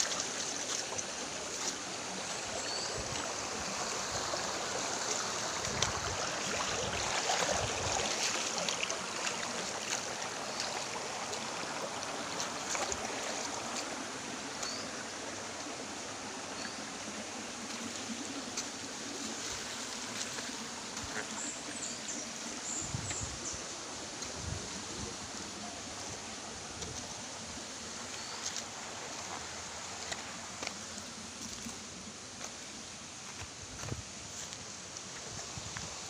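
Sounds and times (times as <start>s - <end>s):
creek water rushing over stones: 0.0s - 36.0s.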